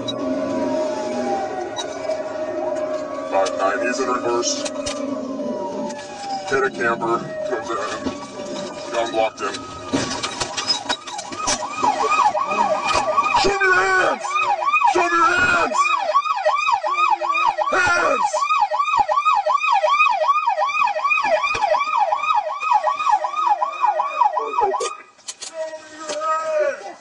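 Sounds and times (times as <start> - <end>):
police siren yelping: 0.0 - 25.9.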